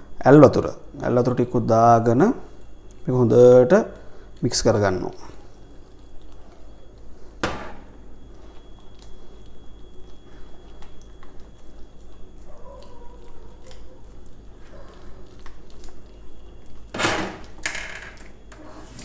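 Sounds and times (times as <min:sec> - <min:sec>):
batter being stirred in a bowl: 0:01.1 - 0:16.9.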